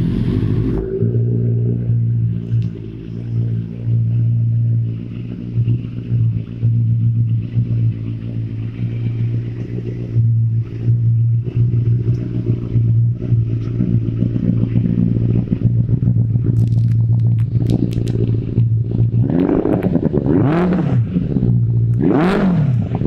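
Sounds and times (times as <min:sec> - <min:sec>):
exhaust crackles: 0:00.0 - 0:23.0
motorcycle engine running: 0:00.0 - 0:23.0.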